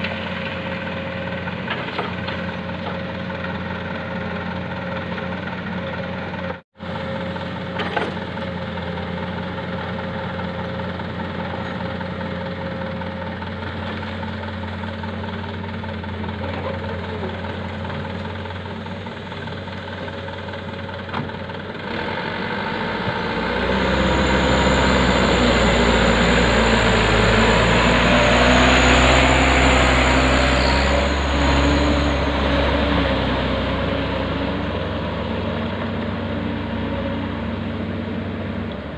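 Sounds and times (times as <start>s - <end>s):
heavy diesel engine: 0.0s - 38.9s.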